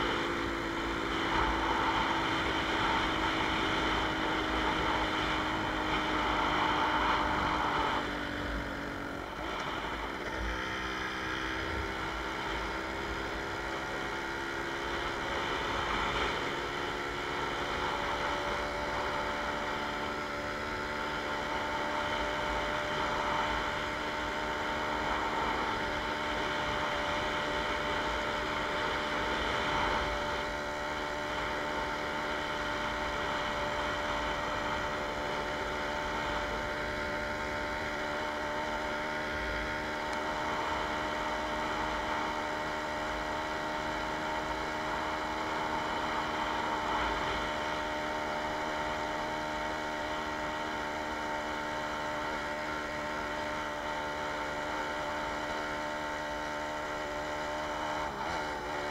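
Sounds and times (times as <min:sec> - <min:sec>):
moped engine running: 0:00.0 - 0:58.9.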